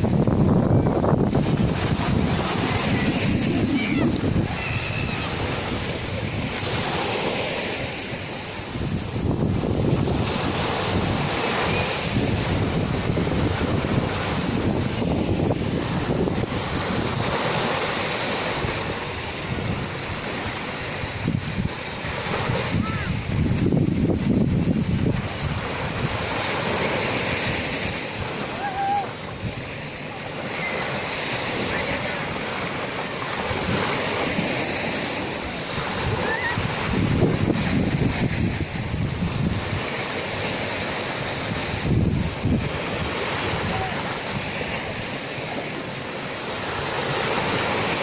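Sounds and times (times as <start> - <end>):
sea waves washing onto shore: 0.0 - 48.0
wind buffeting microphone: 0.0 - 48.0.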